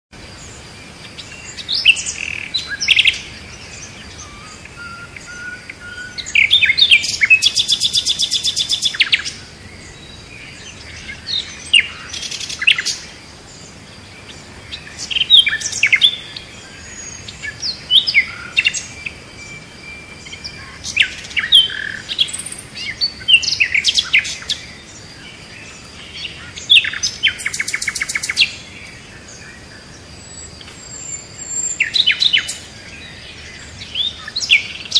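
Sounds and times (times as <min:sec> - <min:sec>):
songbirds chirping and singing: 0:00.2 - 0:34.9.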